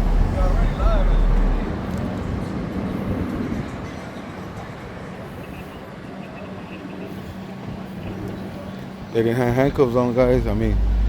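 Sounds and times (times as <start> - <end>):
passing vehicle: 0.0 - 11.0
steady low traffic hum: 0.0 - 11.0.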